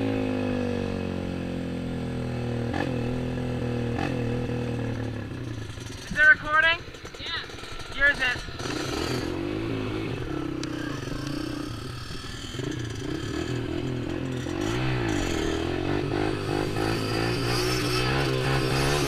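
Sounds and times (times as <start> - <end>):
small motorcycle engine revving: 0.0 - 19.0.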